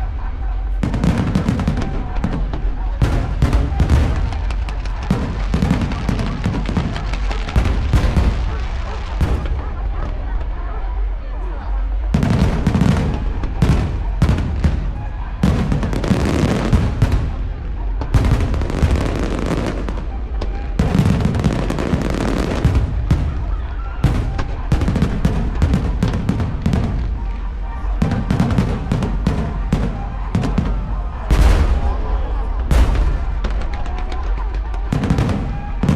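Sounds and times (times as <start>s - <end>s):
fireworks bangs and booms: 0.0s - 35.9s
fireworks crackling: 0.0s - 35.9s.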